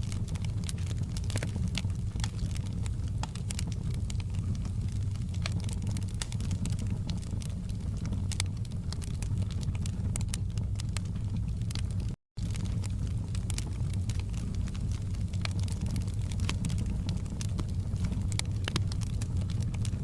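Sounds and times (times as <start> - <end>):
low rumble of flames: 0.0 - 20.0
wood fire popping and snapping: 0.0 - 20.0.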